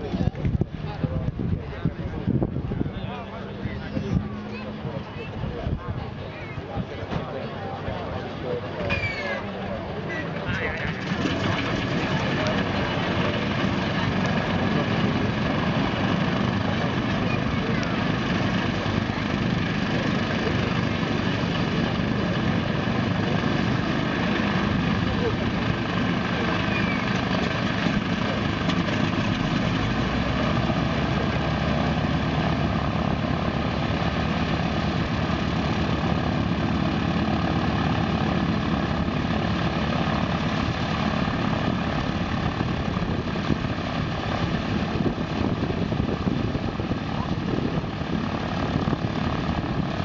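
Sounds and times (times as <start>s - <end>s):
radial aircraft engines running: 0.0s - 50.0s.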